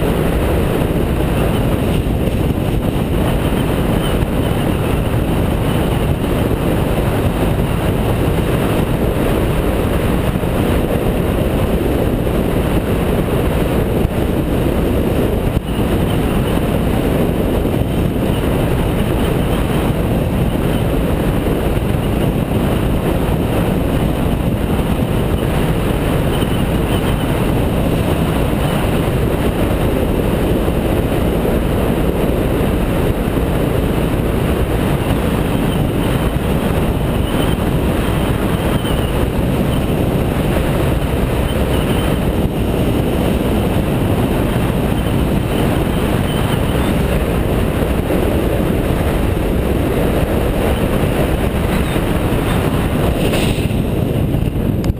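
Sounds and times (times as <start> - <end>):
motorcycle engine noise: 0.0 - 54.9
wind rush while riding: 0.0 - 54.9.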